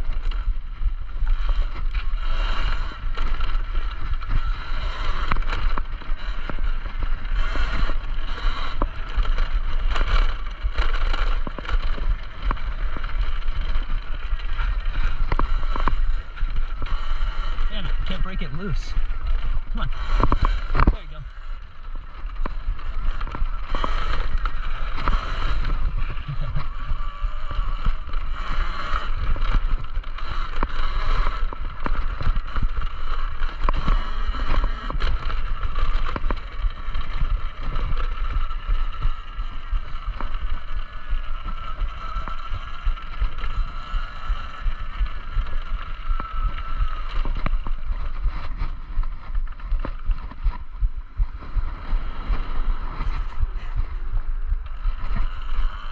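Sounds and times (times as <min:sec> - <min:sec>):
electric motor whining: 0:00.1 - 0:55.9.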